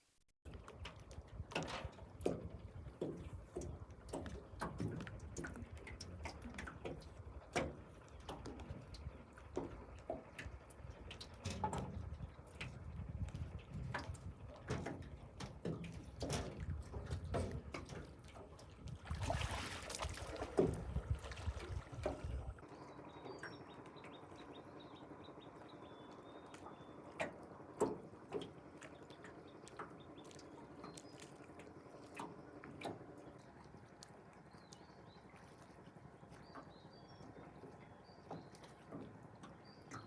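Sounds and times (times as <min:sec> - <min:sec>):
water splashing and sloshing: 0:00.5 - 0:40.0.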